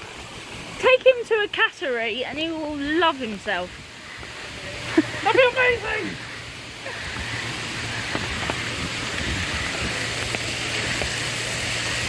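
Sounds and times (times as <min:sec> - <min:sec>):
falling water hissing: 0:00.0 - 0:12.0.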